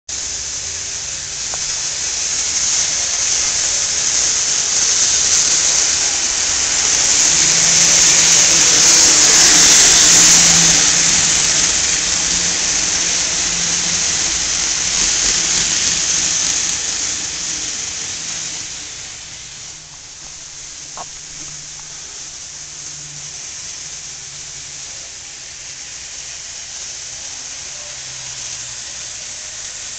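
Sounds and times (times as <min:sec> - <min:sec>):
model train wheels and motors rushing: 0:00.1 - 0:29.9.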